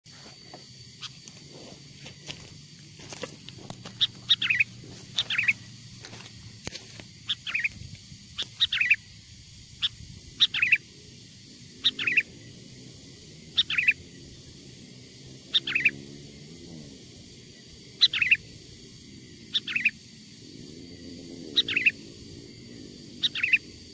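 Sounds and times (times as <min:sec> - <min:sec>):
bulbul calling: 0:00.9 - 0:01.3, 0:03.6 - 0:20.5, 0:21.3 - 0:23.9.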